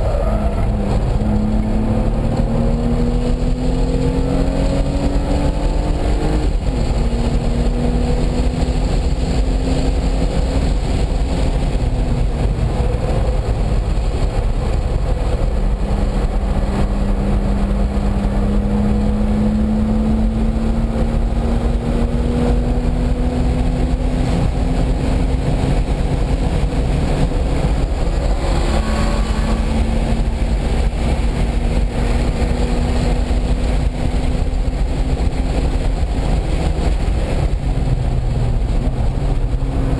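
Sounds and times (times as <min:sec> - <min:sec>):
car engine pulling hard: 0:00.0 - 0:39.9
wind and road noise: 0:00.0 - 0:39.9.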